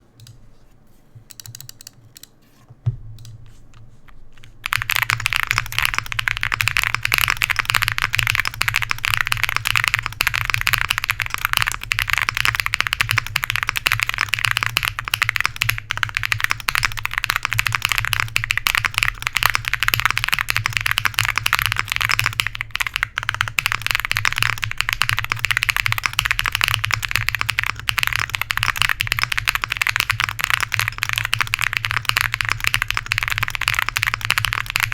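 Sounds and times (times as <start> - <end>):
mechanical keyboard typing clacks: 1.3 - 2.3, 4.6 - 34.9.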